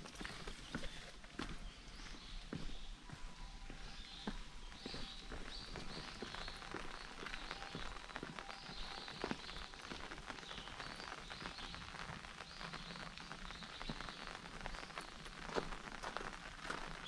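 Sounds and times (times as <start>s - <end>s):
bird chirping: 0.0s - 15.7s
even outdoor hiss: 0.0s - 17.0s.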